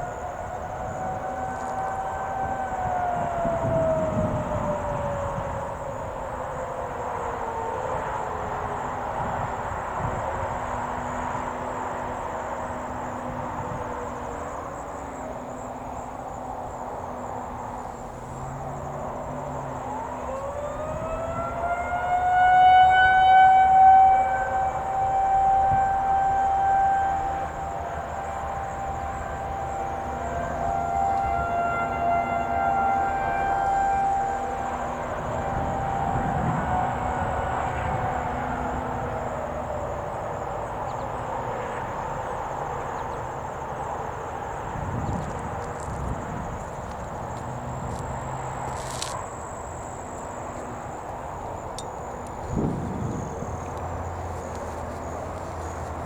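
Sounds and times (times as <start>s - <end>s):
distant warning sirens: 0.0s - 56.0s.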